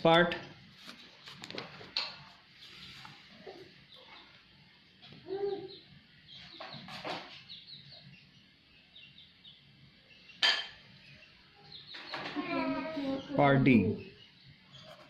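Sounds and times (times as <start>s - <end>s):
small birds chirping: 2.6s - 15.0s.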